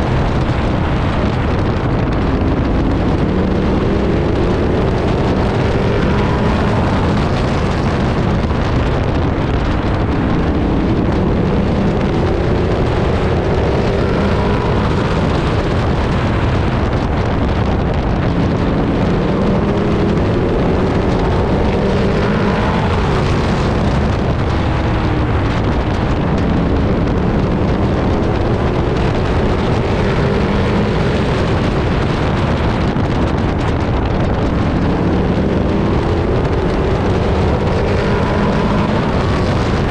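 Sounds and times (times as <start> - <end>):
truck engine revving: 0.0 - 39.9
wind and road noise: 0.0 - 39.9.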